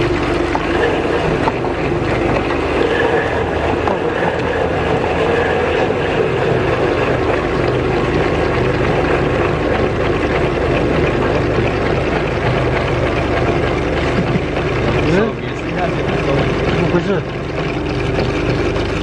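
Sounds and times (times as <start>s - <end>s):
electric meat grinder humming: 0.0s - 19.0s.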